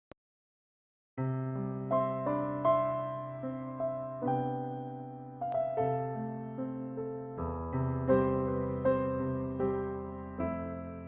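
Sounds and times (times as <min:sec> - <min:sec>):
soft electric piano chords: 0:01.2 - 0:11.0.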